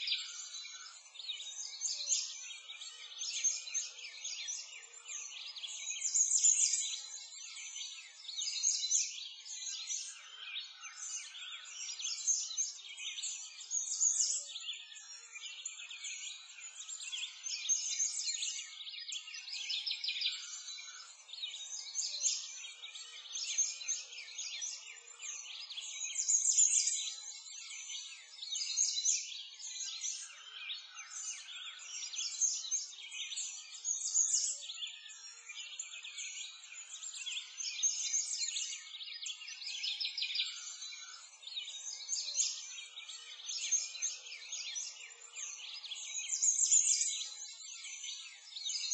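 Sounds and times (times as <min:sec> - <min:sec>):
songbirds chirping and singing: 0:00.0 - 0:48.9.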